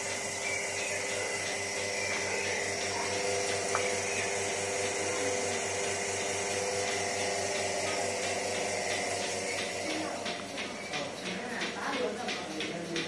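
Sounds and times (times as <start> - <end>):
vacuum pump motor humming and pulsing: 0.0 - 13.0.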